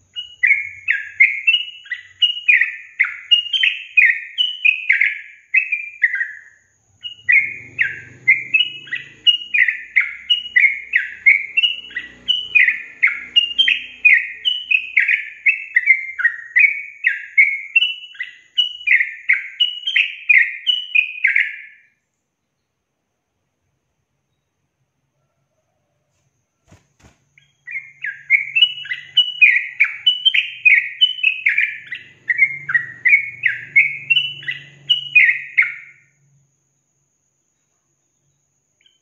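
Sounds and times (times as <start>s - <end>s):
bird singing falling notes: 0.0s - 21.9s, 26.6s - 36.1s.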